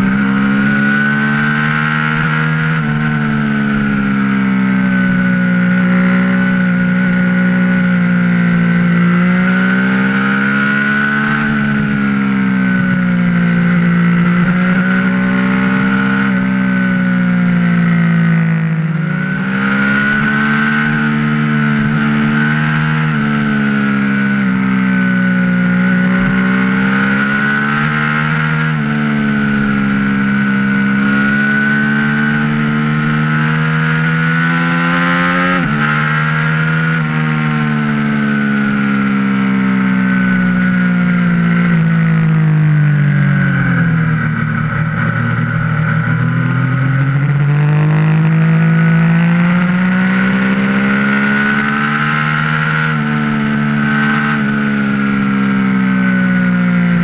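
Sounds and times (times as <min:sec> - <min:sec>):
motorcycle engine at road speed: 0:00.0 - 0:57.0.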